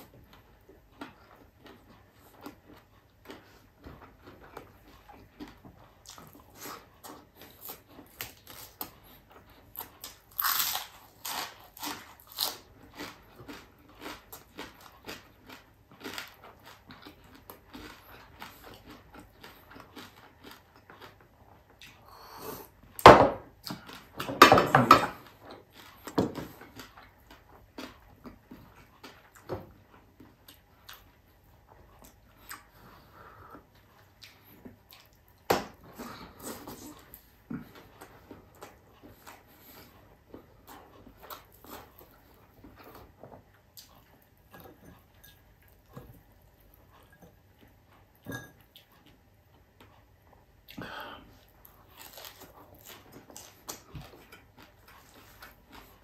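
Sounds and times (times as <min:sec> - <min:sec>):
man chewing and smacking: 0:00.0 - 0:24.4, 0:25.0 - 0:56.0.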